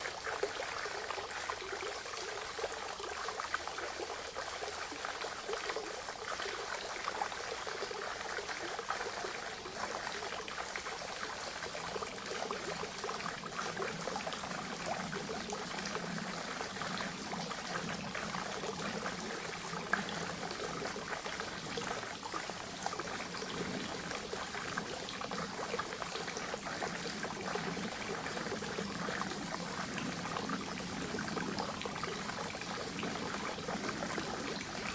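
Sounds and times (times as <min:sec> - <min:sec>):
deep water gurgle: 0:00.0 - 0:34.9
water trickling into pond: 0:00.0 - 0:34.9.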